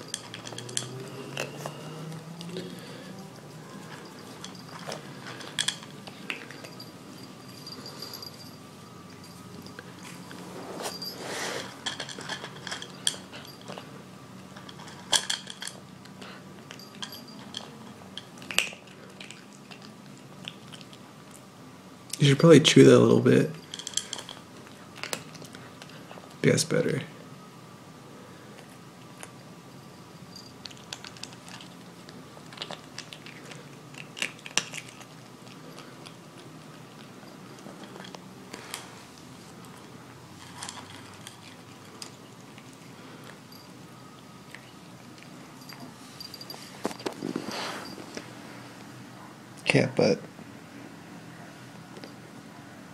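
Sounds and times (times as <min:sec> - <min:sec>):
kitten crunching dry kibble: 0:00.0 - 0:21.5, 0:22.2 - 0:26.7, 0:28.4 - 0:29.5, 0:30.2 - 0:48.9.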